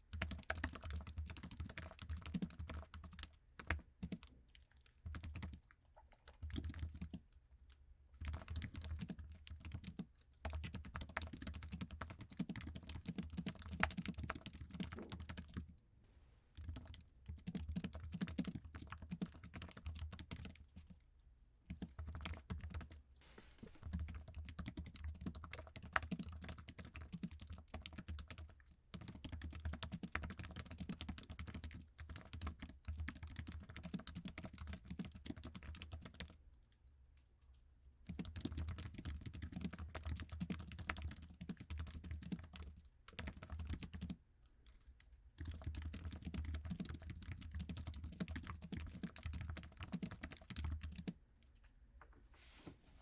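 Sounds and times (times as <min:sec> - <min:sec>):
fast keyboard typing: 0:00.1 - 0:07.2, 0:08.2 - 0:15.7, 0:16.6 - 0:21.0, 0:21.7 - 0:23.0, 0:23.7 - 0:36.4, 0:38.1 - 0:44.2, 0:45.4 - 0:51.2.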